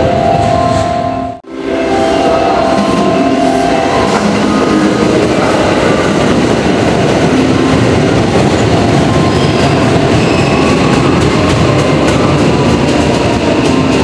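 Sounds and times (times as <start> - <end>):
train wheels rumbling on rail: 2.5 - 14.0.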